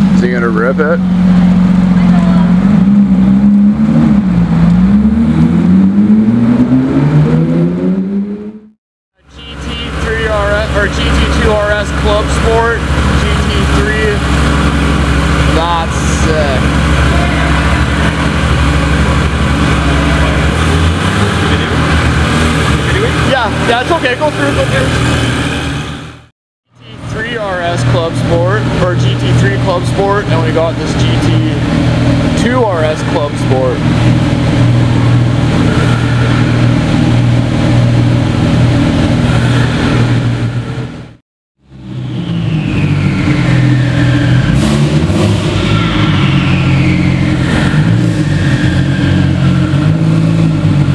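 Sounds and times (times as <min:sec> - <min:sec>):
car engine idling: 0:00.0 - 0:06.2, 0:09.2 - 0:50.9.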